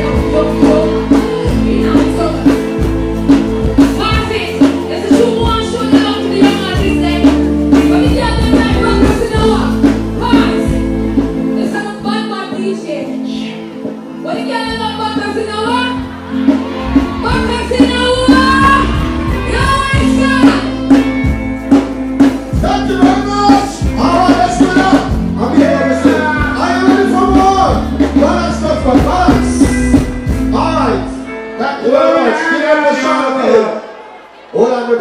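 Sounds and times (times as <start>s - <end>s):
backing track with bass and drums: 0.0s - 12.2s, 14.3s - 31.3s.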